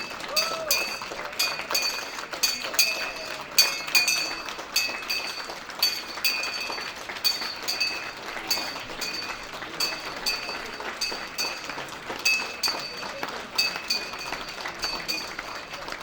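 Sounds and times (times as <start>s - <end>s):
bell ringing: 0.0s - 16.0s.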